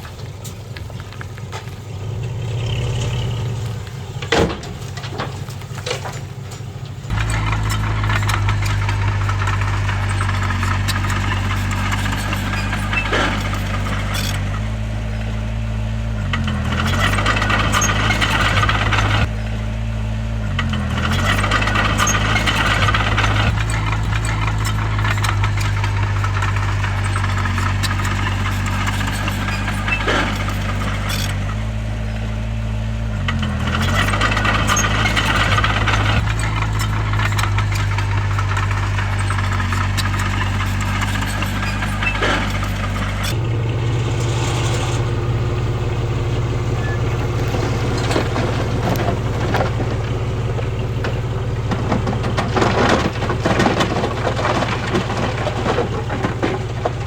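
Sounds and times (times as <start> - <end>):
rattling clatter: 0.0 - 19.8, 20.4 - 57.0
heavy diesel engine running: 0.0 - 57.0.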